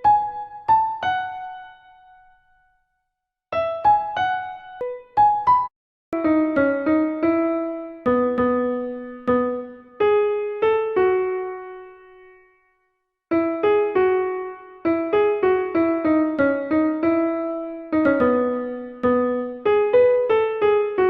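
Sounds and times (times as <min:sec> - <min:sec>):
piano keyboard melody: 0:00.0 - 0:02.7, 0:03.5 - 0:21.0.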